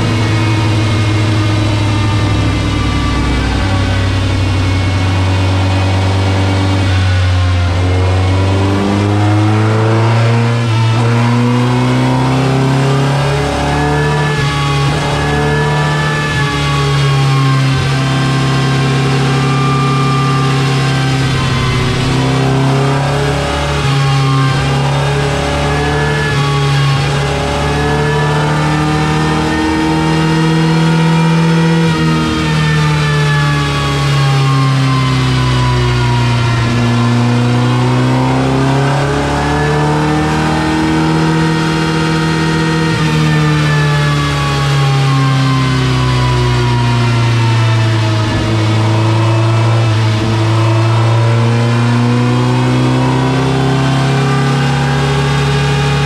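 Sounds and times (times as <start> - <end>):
car engine running under load: 0.0 - 56.0.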